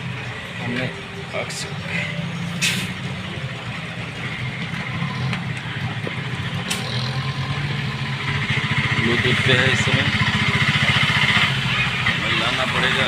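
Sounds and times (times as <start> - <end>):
street traffic: 0.0 - 13.0
vehicle engine running: 0.0 - 13.0.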